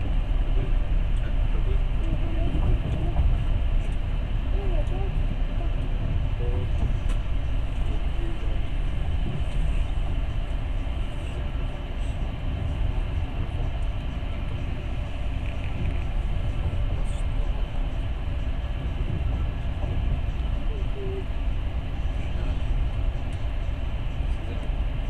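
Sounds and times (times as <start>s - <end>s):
train rumbling and rushing: 0.0s - 25.0s.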